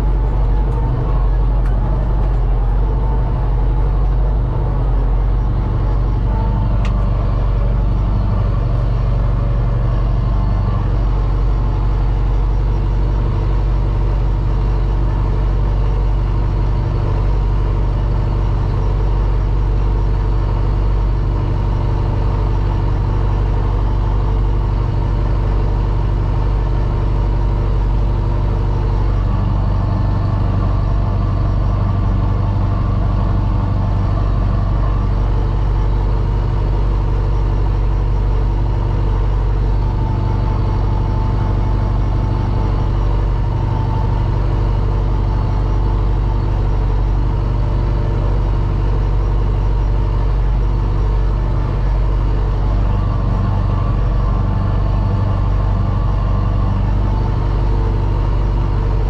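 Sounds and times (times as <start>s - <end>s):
tractor diesel engine drone: 0.0s - 59.0s.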